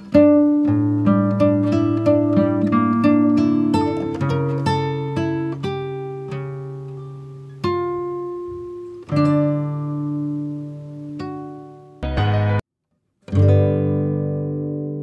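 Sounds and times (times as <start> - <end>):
plucked acoustic guitar: 0.0 - 12.6, 13.2 - 15.0.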